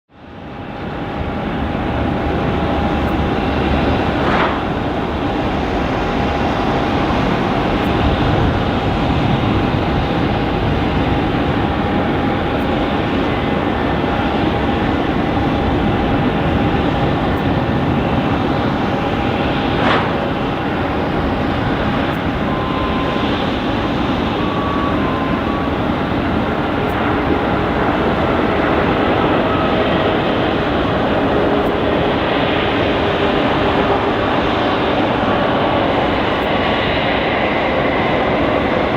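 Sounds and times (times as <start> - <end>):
jet engines roaring: 0.2 - 38.9.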